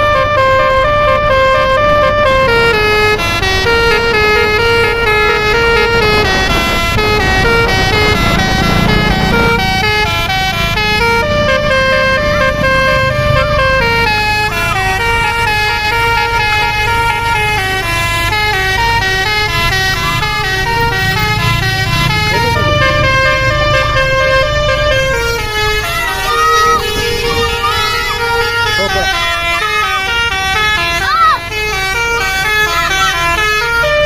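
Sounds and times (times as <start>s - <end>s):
coach engine and road rumble: 0.0s - 34.0s
multi-tone air horns playing a tune: 0.0s - 34.0s.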